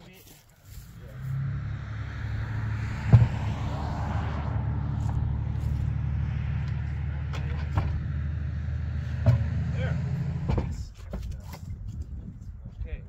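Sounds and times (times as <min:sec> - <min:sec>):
engine rumbling: 0:00.2 - 0:13.0.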